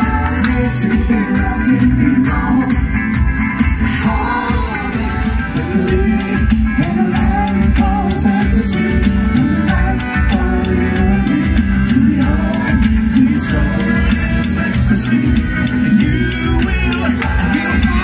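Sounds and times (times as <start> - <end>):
man singing: 0.0 - 2.9, 3.8 - 18.0
live band playing: 0.0 - 18.0.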